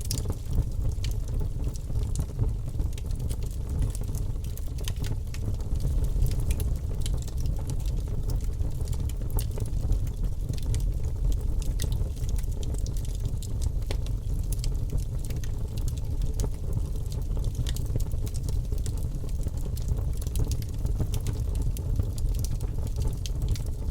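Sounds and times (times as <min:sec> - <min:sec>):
fire crackling and popping: 0:00.0 - 0:23.9
low rumble of fire: 0:00.0 - 0:23.9.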